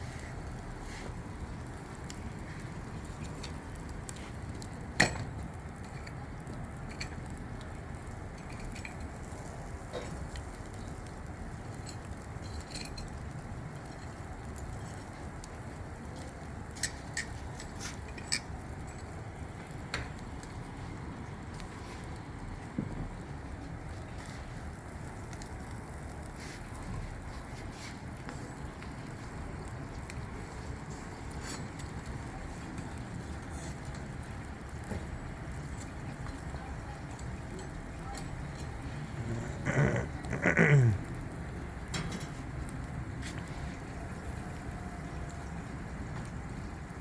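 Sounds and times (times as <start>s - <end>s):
fish grilling on barbecue: 0.0s - 47.0s.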